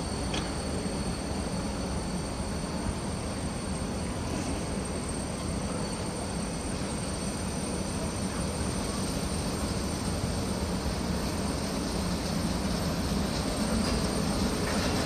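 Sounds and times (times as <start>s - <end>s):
train rumble of motors and wheels: 0.0s - 15.0s.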